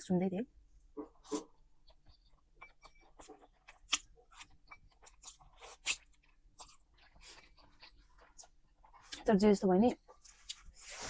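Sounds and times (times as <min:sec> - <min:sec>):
chewing food: 0:01.2 - 0:10.7.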